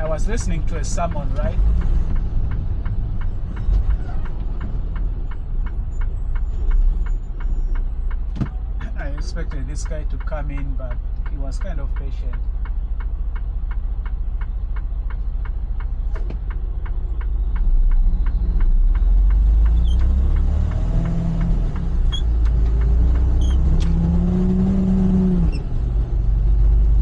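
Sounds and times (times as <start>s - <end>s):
truck diesel engine: 0.0s - 27.0s
turn signal clicking: 0.0s - 27.0s.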